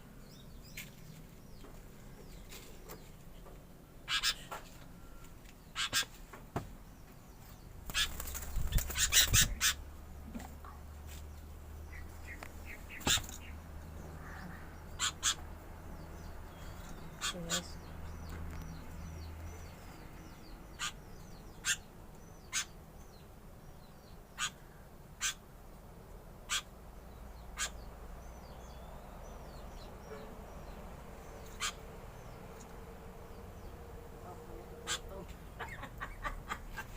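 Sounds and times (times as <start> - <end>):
birds twittering: 0.0 - 36.9.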